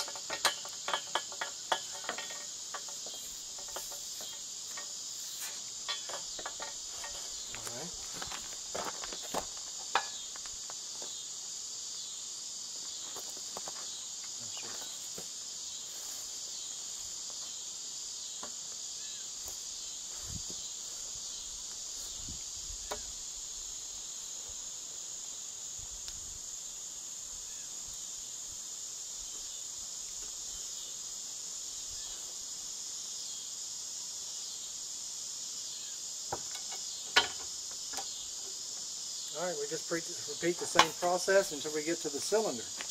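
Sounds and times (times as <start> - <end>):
insects shrilling: 0.0 - 42.9.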